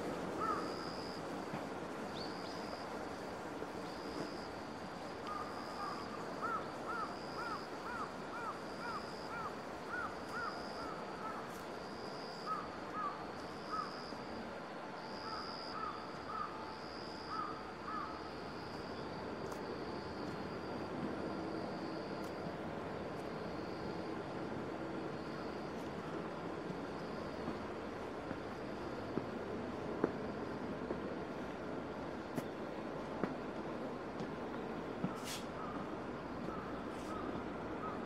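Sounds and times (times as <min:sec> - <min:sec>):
steady background hiss: 0:00.0 - 0:38.0.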